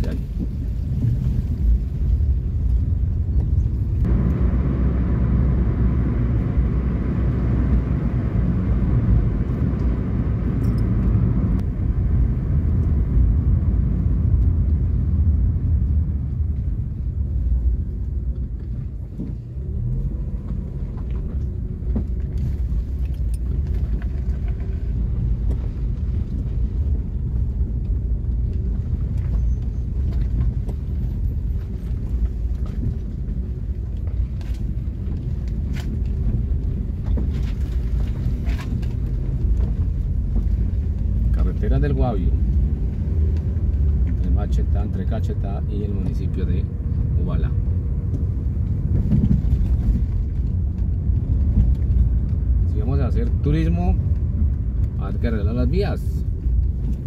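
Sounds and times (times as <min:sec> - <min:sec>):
car engine and tyre rumble: 0:00.0 - 0:57.0
rushing tyre noise: 0:00.0 - 0:57.0.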